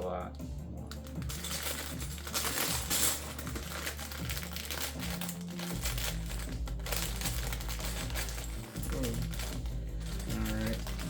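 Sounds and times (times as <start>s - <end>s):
soft background music: 0.0s - 11.0s
plastic bricks clicking and rattling: 0.9s - 11.0s.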